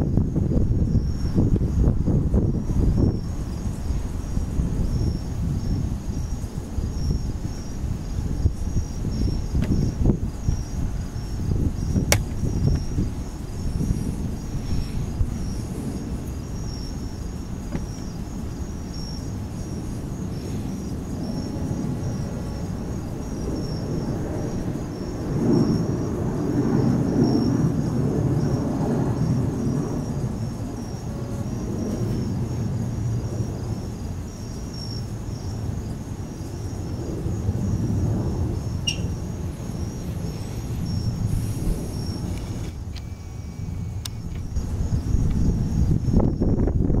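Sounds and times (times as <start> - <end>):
crickets chirping: 0.0 - 47.0
wind buffeting microphone: 0.0 - 47.0.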